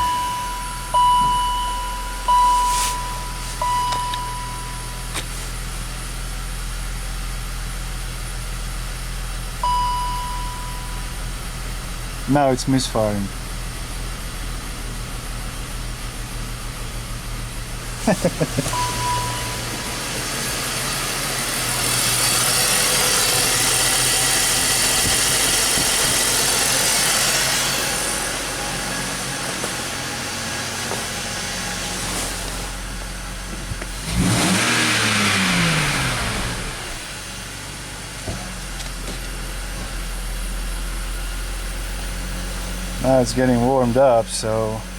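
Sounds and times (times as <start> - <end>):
car engine misfiring: 0.0 - 44.9.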